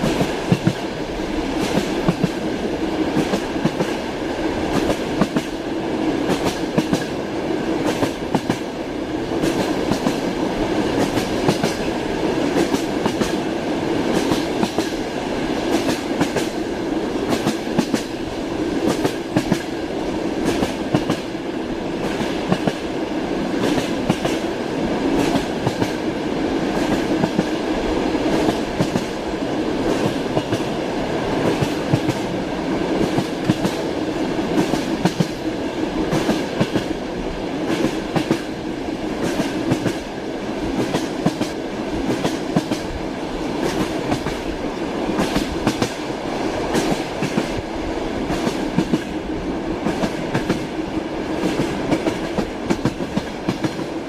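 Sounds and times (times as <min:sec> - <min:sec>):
train rumbling: 0:00.0 - 0:54.0
train wheels clickety-clack: 0:00.0 - 0:54.0.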